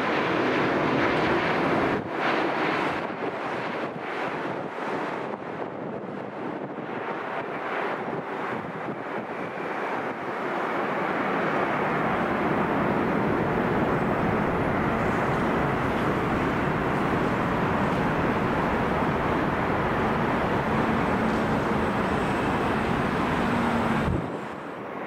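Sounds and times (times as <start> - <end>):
jet airliner engines: 0.0 - 25.0.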